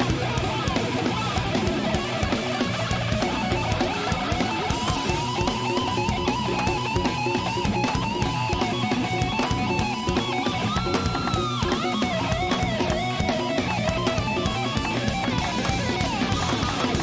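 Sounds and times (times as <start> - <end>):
distorted electric guitar lead: 0.0 - 17.0
drums: 0.0 - 17.0.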